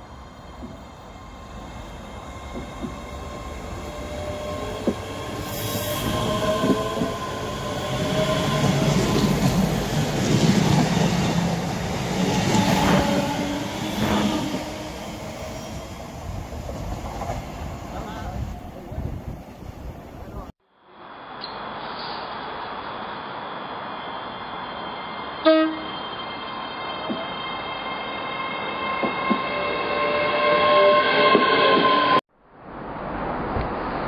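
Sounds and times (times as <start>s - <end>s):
train passing: 0.0s - 34.0s.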